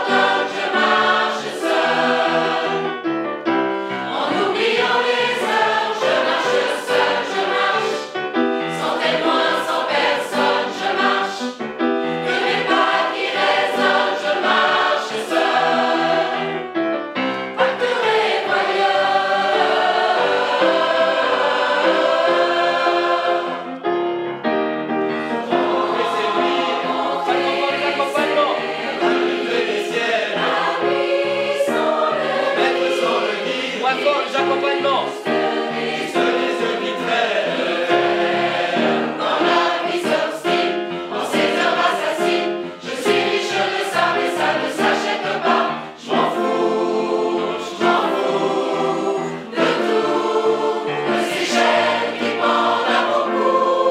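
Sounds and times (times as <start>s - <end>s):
mixed choir singing in harmony: 0.0s - 53.9s
piano accompaniment: 0.0s - 53.9s.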